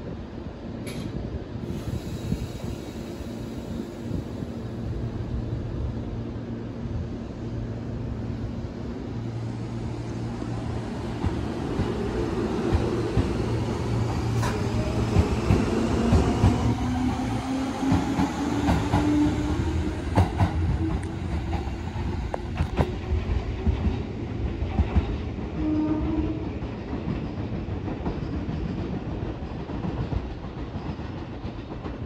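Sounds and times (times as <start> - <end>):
electric train hum: 0.0 - 32.0.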